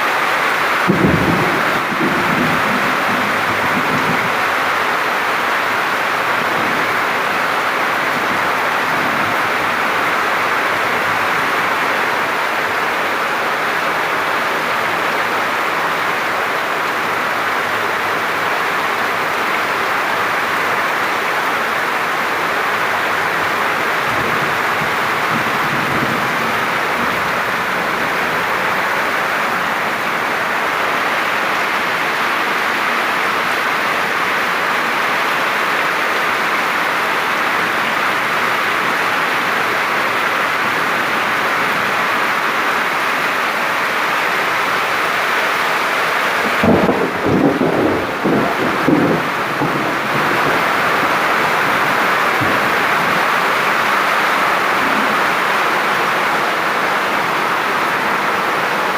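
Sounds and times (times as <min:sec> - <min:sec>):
steady loud rain: 0:00.0 - 0:58.9.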